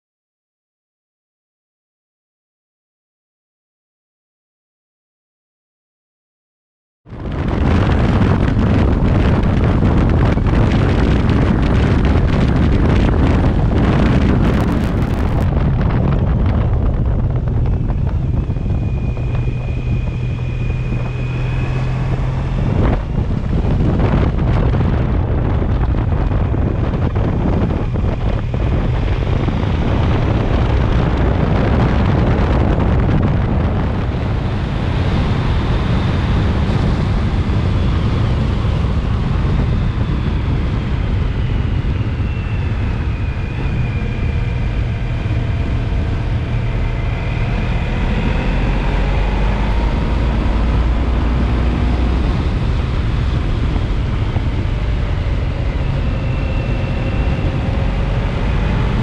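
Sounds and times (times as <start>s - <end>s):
motorcycle engine drone: 7.1s - 59.0s
wind rushing over microphone: 7.1s - 59.0s.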